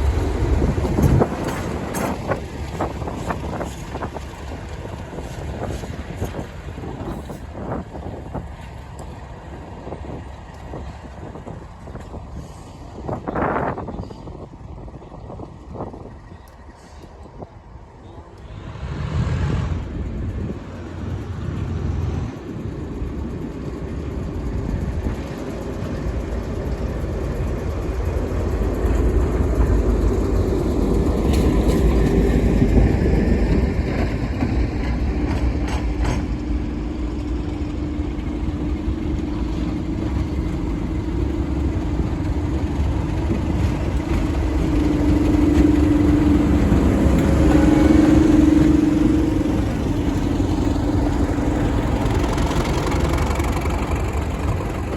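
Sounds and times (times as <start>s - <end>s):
diesel locomotive engine rumbling: 0.0s - 54.9s.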